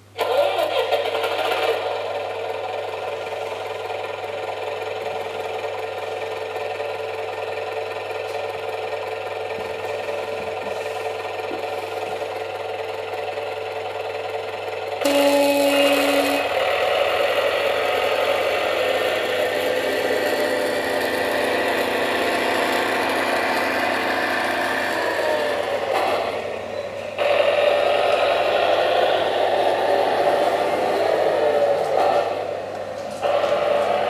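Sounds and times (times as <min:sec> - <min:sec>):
simulated diesel engine from speaker: 0:00.0 - 0:34.0.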